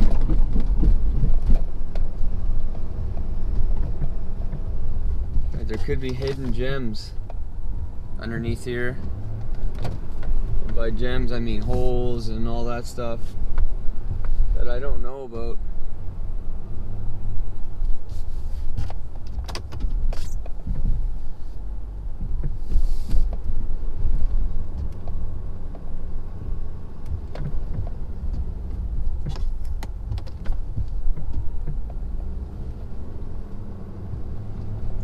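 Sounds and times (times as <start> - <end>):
knocks and clunks: 0.0 - 7.5, 8.2 - 15.2, 18.7 - 21.2, 22.0 - 35.0
diesel truck engine under load: 0.0 - 35.0.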